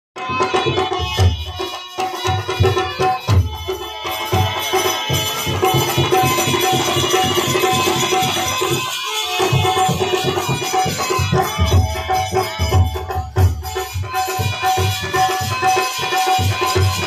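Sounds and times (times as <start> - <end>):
hand drum beat: 0.3 - 17.0.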